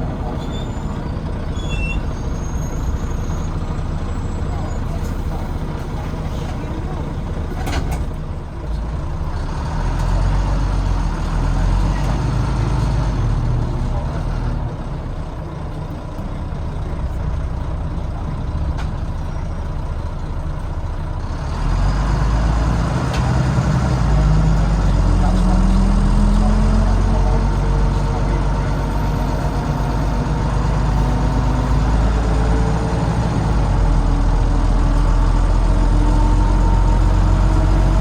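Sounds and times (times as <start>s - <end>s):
bus diesel engine working hard: 0.0s - 38.0s.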